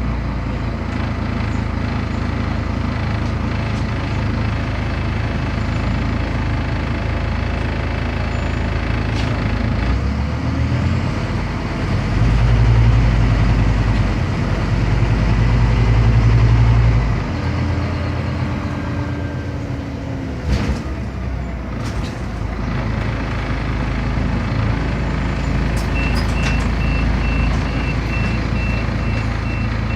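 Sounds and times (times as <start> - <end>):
bus diesel engine: 0.0 - 29.9.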